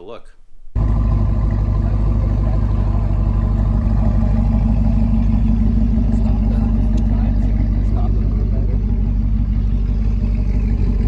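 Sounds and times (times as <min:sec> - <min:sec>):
car engine idling: 0:00.8 - 0:11.0.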